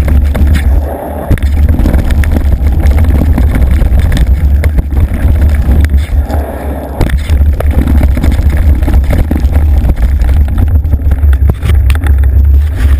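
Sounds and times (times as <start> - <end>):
bike rattling and knocking: 0.0 - 6.4, 7.0 - 12.9
wind buffeting microphone: 0.0 - 12.9.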